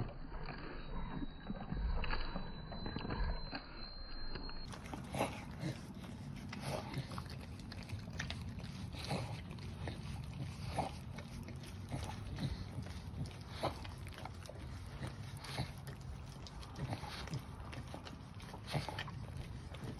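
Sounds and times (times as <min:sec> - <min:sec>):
dogs licking and slurping: 0:00.0 - 0:19.9.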